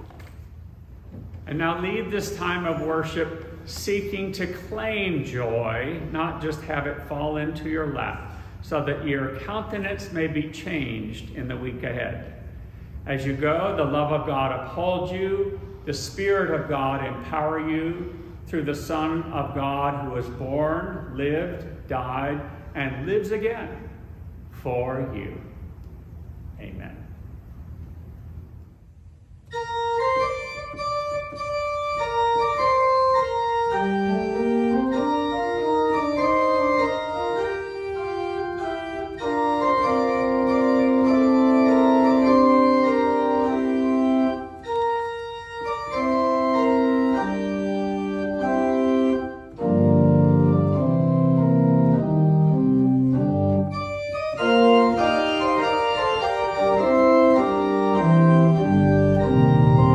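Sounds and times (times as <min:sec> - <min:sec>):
organ playing held chords: 0:01.5 - 0:25.7, 0:29.5 - 0:59.9.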